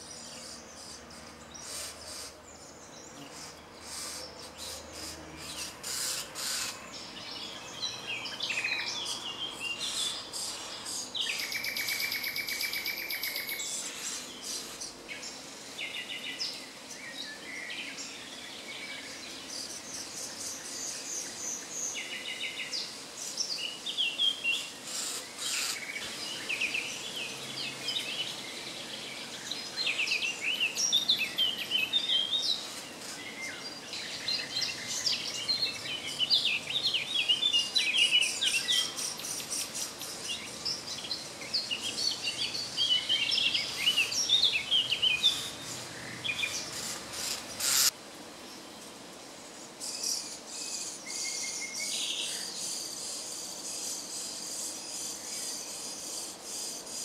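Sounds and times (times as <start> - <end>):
songbirds chirping and singing: 0.0 - 48.0.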